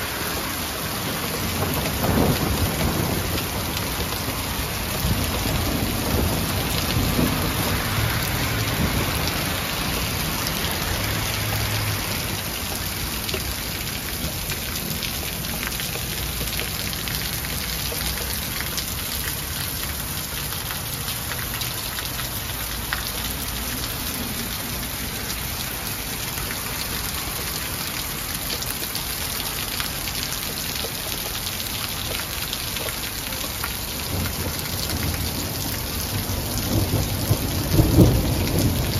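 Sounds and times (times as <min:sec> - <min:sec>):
hail and rain falling: 0:00.0 - 0:38.9.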